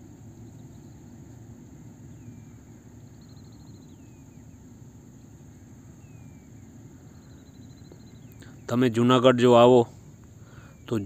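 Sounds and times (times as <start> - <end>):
bird calls: 2.0 - 11.0.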